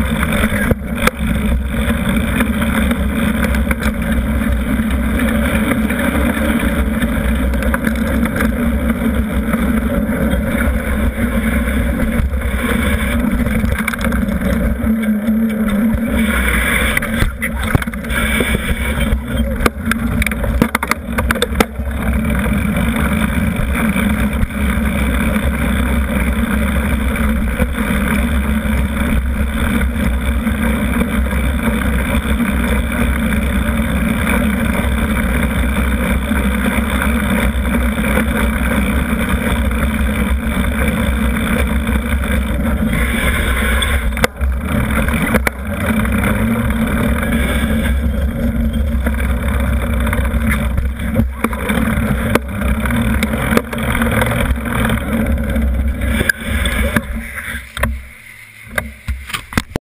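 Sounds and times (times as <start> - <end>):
wind rumble: 0.0 - 59.6
bike rattling over bumps: 0.0 - 59.8
bike tyre rolling on pavement: 0.0 - 59.8.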